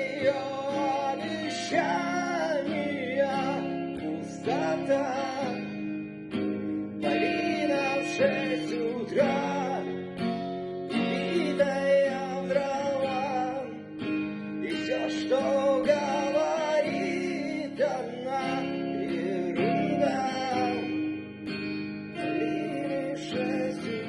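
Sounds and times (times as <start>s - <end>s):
acoustic guitar strumming: 0.0s - 24.0s
person singing: 0.0s - 24.0s.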